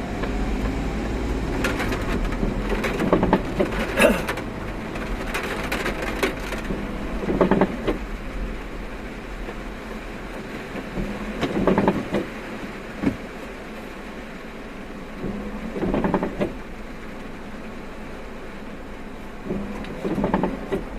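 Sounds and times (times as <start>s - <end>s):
car road and engine rumble: 0.0s - 20.9s.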